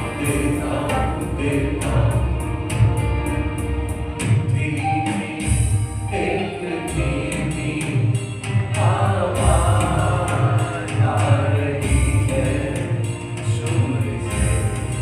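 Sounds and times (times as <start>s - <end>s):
band accompaniment: 0.0s - 15.0s
people singing worship song: 0.0s - 15.0s.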